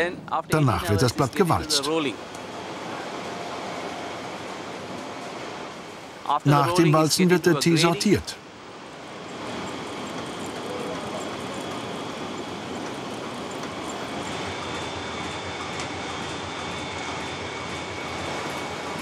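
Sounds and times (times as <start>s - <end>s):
faint high whines: 0.6s - 19.0s.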